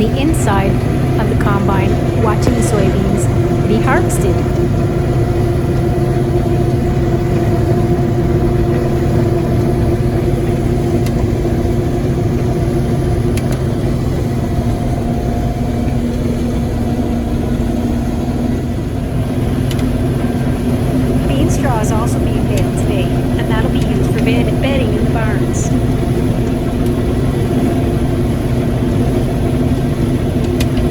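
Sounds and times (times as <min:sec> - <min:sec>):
combine harvester engine drone: 0:00.0 - 0:30.9.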